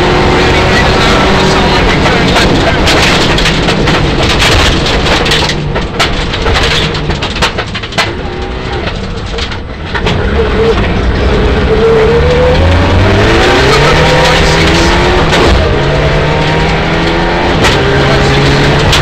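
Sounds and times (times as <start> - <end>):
car engine from inside cabin: 0.0 - 6.4, 7.1 - 19.0.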